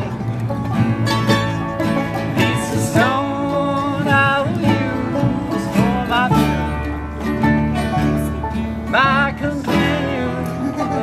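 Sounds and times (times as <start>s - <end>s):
acoustic guitar picking: 0.0s - 11.0s
mandolin picking: 0.0s - 11.0s
sliding lead melody: 0.0s - 11.0s
upright bass walking: 0.0s - 11.0s.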